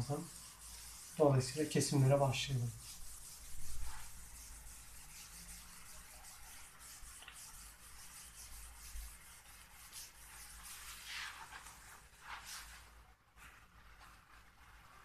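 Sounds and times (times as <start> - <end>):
eraser rubbing on whiteboard: 0.0 - 15.0.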